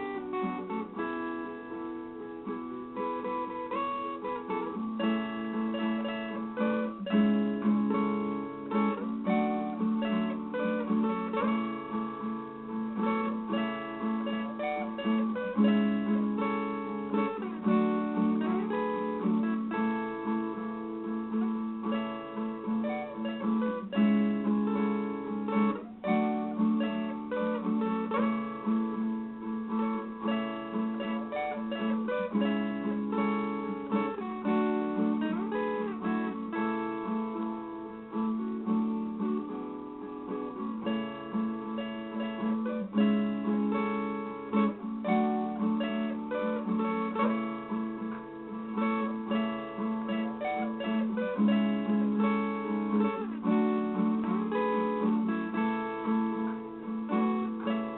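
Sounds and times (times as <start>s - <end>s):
plucked string instrument melody: 0.0s - 57.9s.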